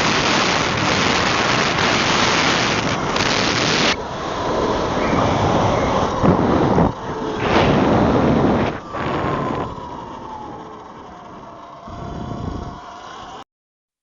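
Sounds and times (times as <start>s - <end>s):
wind buffeting microphone: 0.0s - 12.9s
faint whine sliding down: 0.0s - 13.4s.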